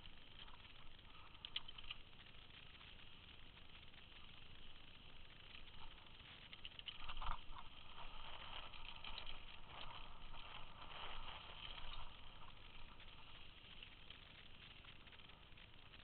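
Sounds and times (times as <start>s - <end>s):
bike tyres crunching over gravel: 0.0s - 16.0s.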